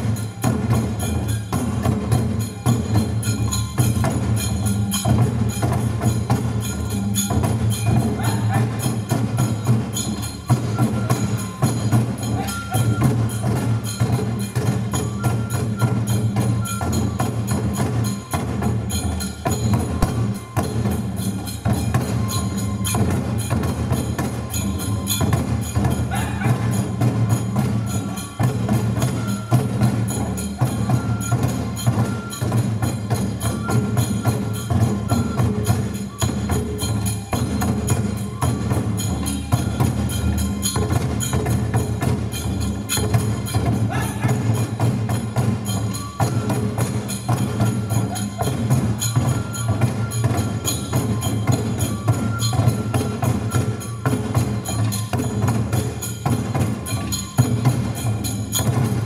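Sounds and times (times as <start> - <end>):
folk dance music: 0.0 - 58.9
fast drum beat: 0.0 - 59.0.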